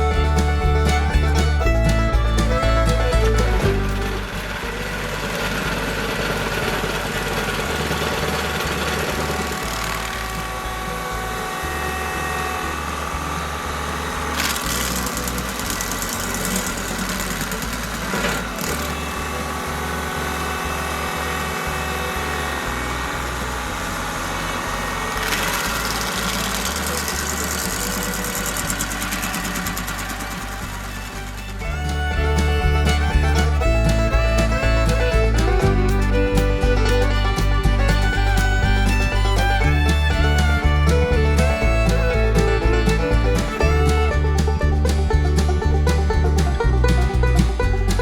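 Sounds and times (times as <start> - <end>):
stump grinder chewing wood: 0.0 - 48.0
tractor engine running: 0.0 - 48.0.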